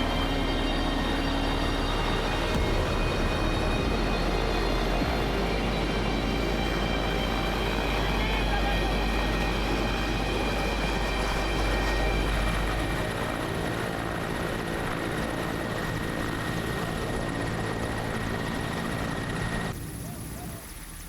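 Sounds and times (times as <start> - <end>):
helicopter rotor and engine rumble: 0.0 - 21.0
helicopter turbine whine: 0.0 - 21.0.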